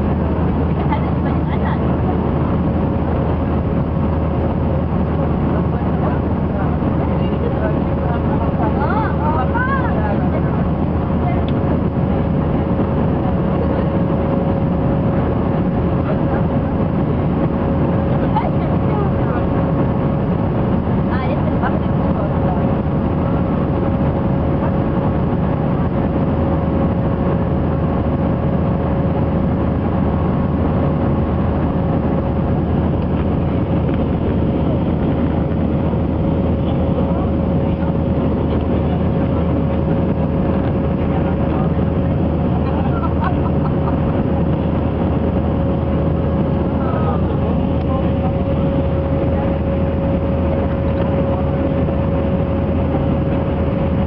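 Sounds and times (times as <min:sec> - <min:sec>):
air rushing over fuselage: 0:00.0 - 0:54.0
jet engines droning: 0:00.0 - 0:54.0
mid-pitched hum: 0:00.0 - 0:54.0.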